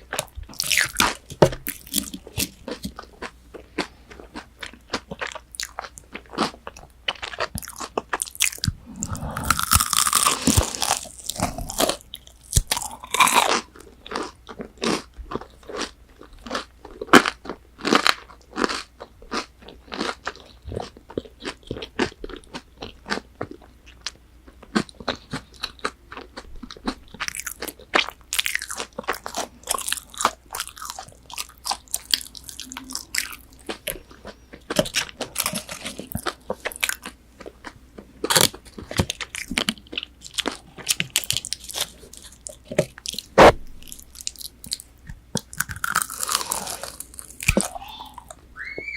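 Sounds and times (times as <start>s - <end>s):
crunchy chewing: 0.0s - 48.4s.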